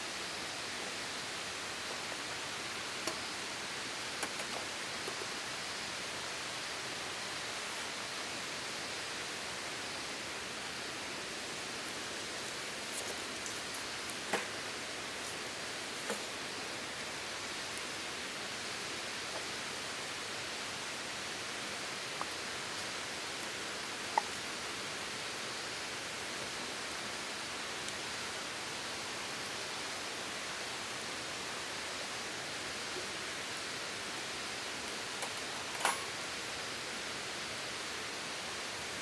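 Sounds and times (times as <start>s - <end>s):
steady rushing hiss: 0.0s - 39.0s.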